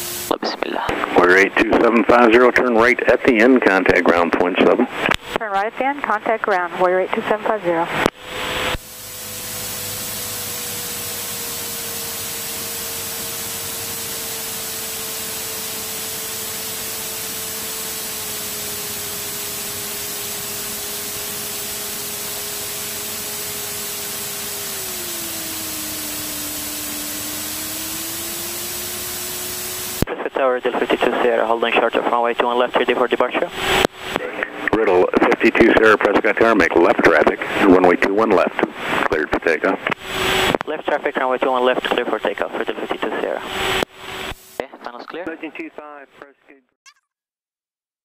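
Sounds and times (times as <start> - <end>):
engine whine: 0.0 - 45.7
intercom audio hiss: 0.0 - 46.6.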